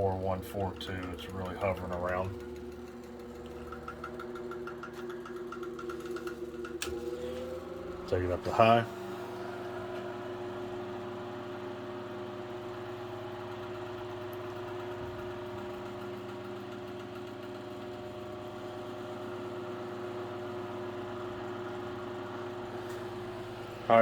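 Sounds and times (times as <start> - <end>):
table fan motor humming: 0.0 - 24.0.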